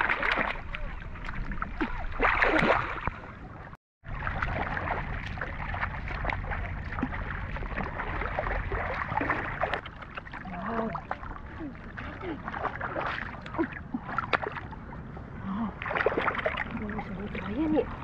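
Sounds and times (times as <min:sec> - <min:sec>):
shallow water sloshing and splashing: 0:00.0 - 0:18.0.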